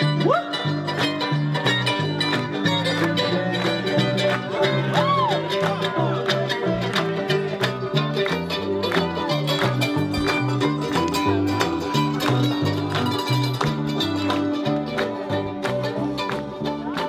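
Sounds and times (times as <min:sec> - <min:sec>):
bluegrass string band music: 0:00.0 - 0:17.0.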